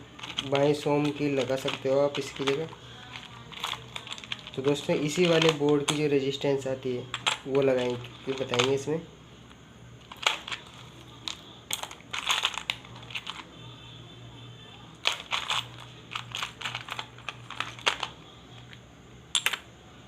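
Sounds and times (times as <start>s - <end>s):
small parts clicking and rustling: 0.1s - 6.2s, 7.0s - 9.0s, 10.0s - 13.5s, 14.9s - 19.6s.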